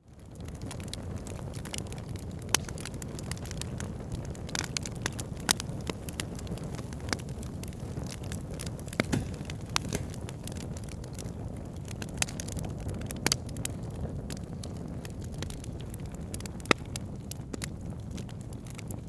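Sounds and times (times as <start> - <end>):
burning logs crackling and popping: 0.0 - 19.0
fire roaring in fireplace: 0.1 - 19.0.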